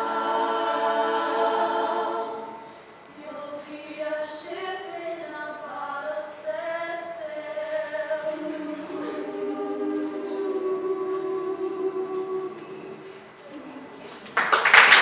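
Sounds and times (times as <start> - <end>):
women singing a cappella: 0.0 - 13.4.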